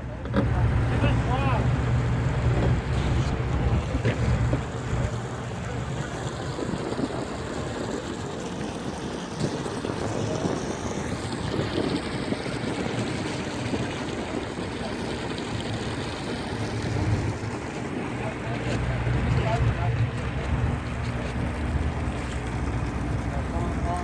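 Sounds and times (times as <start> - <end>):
boat engine running: 0.0 - 24.0
water noise: 0.0 - 24.0.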